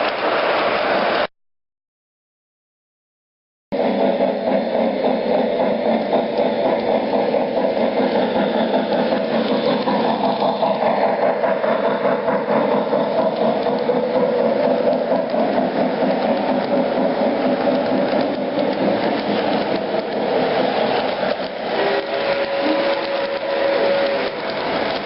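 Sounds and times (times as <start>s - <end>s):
model train motors whirring: 3.8s - 25.0s.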